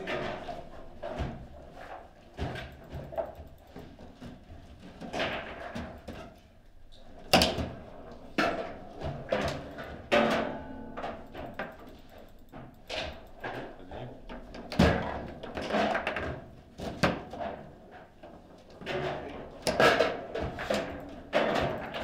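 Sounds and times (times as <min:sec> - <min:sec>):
table football clacks and knocks: 0:00.1 - 0:06.4, 0:07.1 - 0:22.0.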